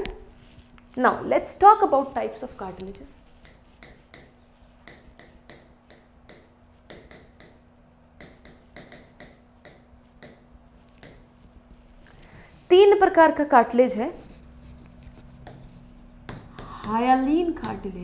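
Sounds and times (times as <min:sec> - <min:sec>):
faint steady hum: 0:00.0 - 0:18.0
chalk tapping and scratching: 0:01.6 - 0:13.2, 0:13.9 - 0:18.0.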